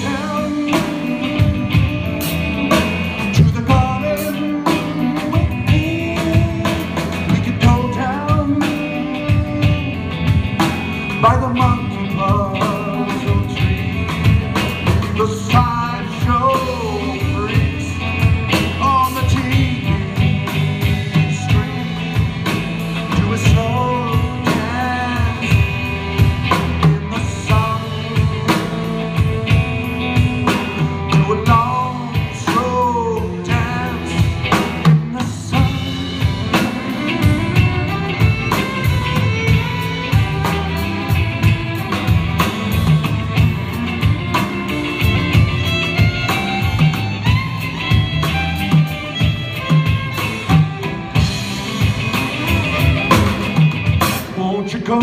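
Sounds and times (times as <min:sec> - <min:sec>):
bass guitar: 0:00.0 - 0:55.0
drum kit with cymbals: 0:00.0 - 0:55.0
electric guitar lead: 0:00.0 - 0:55.0.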